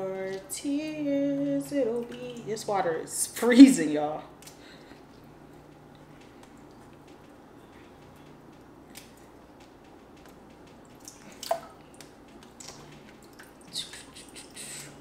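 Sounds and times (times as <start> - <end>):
water dripping and squelching: 0.0 - 15.0.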